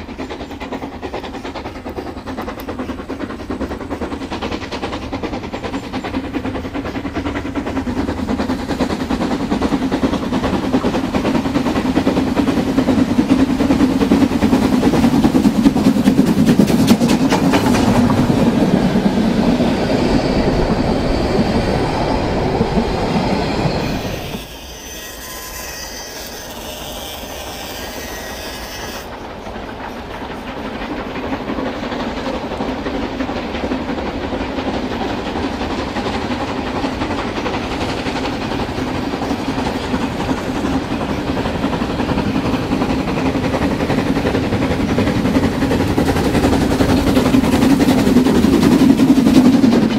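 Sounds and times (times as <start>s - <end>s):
clickety-clack over rail joints: 0.0s - 49.9s
model train wagons rumbling: 0.0s - 49.9s.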